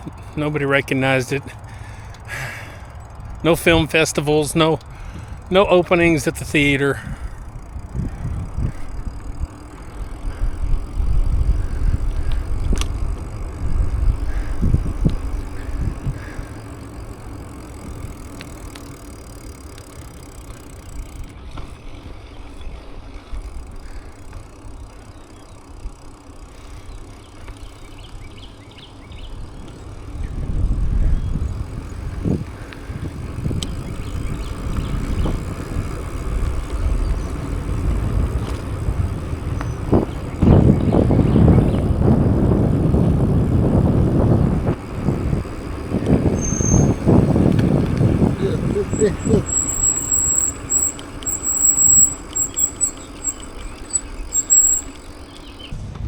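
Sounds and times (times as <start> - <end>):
wind rumbling on microphone: 1.5 - 18.8, 27.6 - 56.0.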